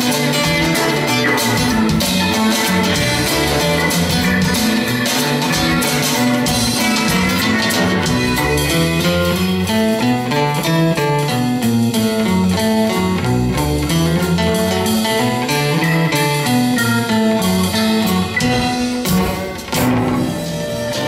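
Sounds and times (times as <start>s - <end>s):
bass line: 0.0s - 21.0s
instrumental band with guitar lead: 0.0s - 21.0s
percussion: 0.0s - 21.0s.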